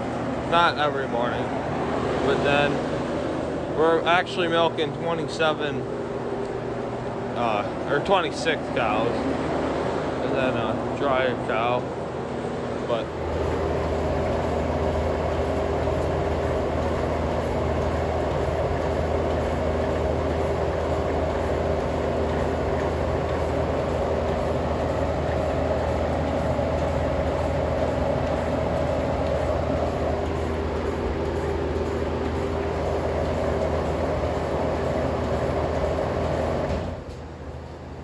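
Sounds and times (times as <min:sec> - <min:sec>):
milking machine humming: 0:00.0 - 0:38.0.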